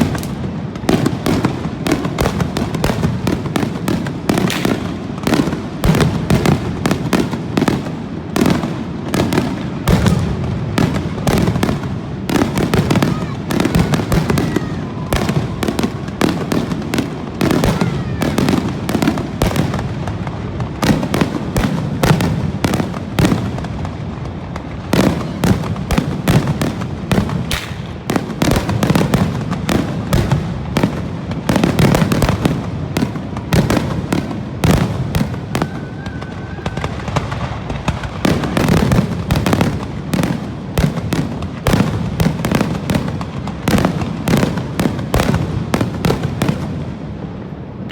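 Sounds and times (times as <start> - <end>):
fireworks bursting: 0.0 - 47.9.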